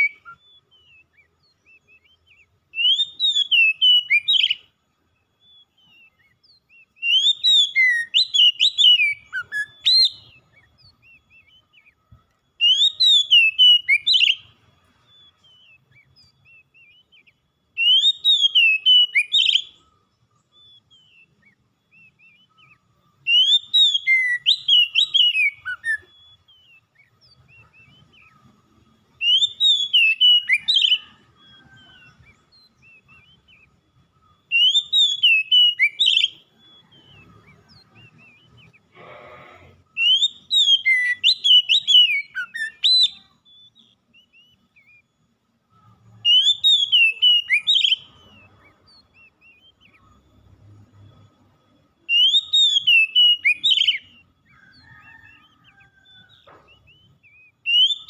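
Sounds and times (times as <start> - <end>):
bird singing whistled notes: 0.0 - 58.0.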